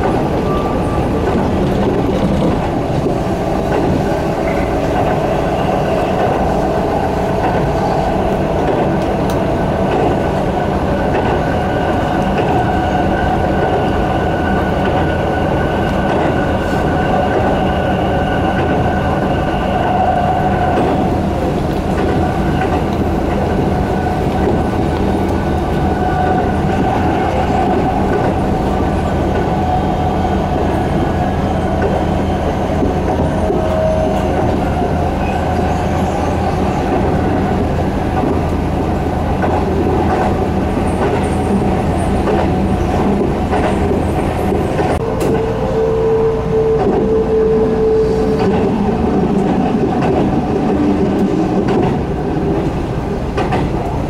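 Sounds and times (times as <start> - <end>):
train wheels rumbling on rail: 0.0 - 54.0
train whine: 0.0 - 54.0.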